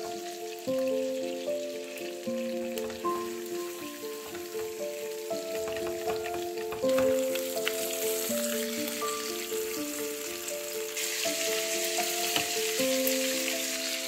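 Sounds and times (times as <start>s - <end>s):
fish sizzling in oil: 0.0s - 14.0s
soft background music: 0.0s - 14.0s.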